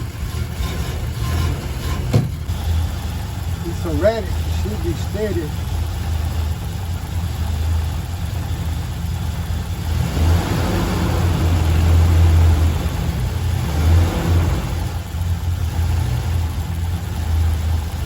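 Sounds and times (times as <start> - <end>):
bus engine running unevenly: 0.0 - 18.0.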